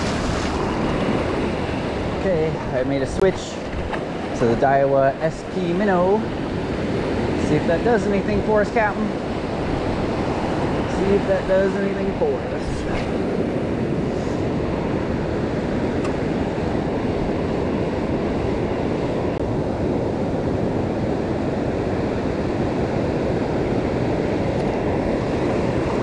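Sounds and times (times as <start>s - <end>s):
breaking surf: 0.0s - 26.0s
wind rumbling on microphone: 0.0s - 26.0s.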